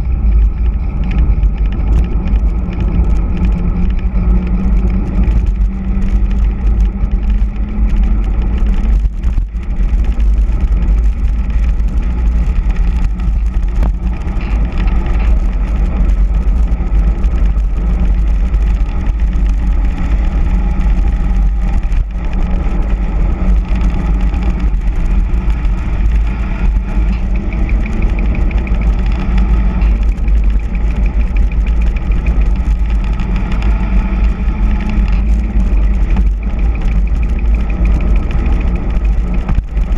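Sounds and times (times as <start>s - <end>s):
tyres rolling on asphalt: 0.0s - 39.9s
wind rushing over microphone: 0.0s - 39.9s.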